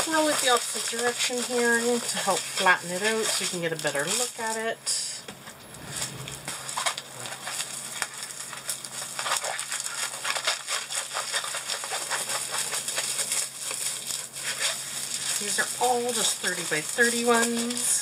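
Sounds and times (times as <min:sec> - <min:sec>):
plastic film crinkling: 0:00.0 - 0:05.0, 0:06.0 - 0:18.0.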